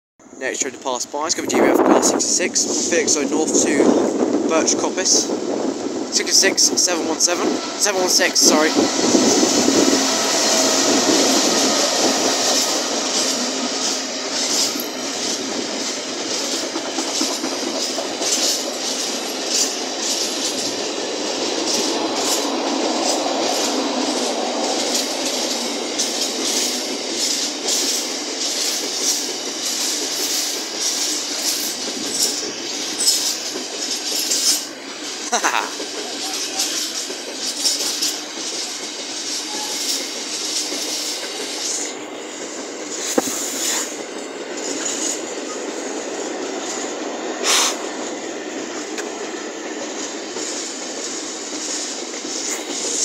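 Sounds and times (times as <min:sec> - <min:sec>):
diesel locomotive passing: 0:00.2 - 0:53.0
wheels clicking over rail joints: 0:05.1 - 0:53.0.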